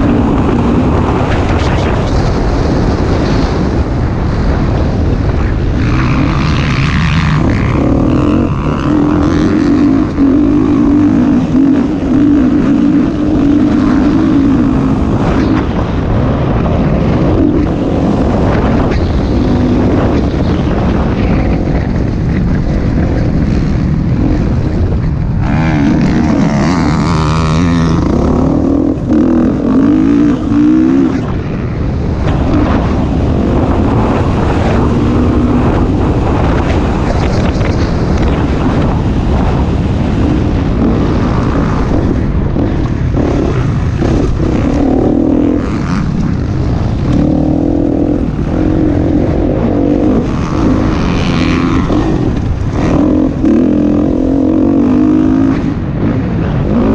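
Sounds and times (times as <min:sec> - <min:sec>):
wind rushing over microphone: 0:00.0 - 0:56.9
motocross engine revving: 0:04.7 - 0:20.8, 0:23.3 - 0:56.9.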